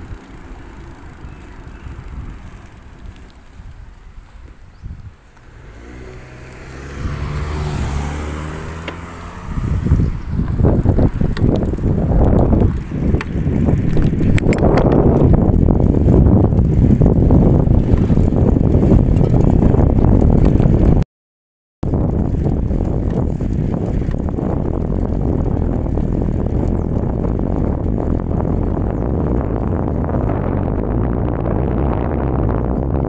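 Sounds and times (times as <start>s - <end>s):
road rumble: 0.0s - 21.0s, 21.8s - 33.0s
wind buffeting: 0.0s - 21.0s, 21.8s - 33.0s.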